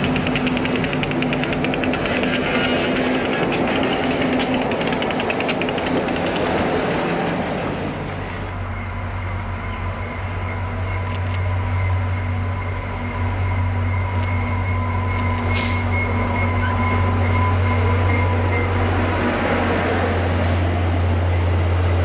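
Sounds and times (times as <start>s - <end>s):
train rattling clatter: 0.0s - 22.0s.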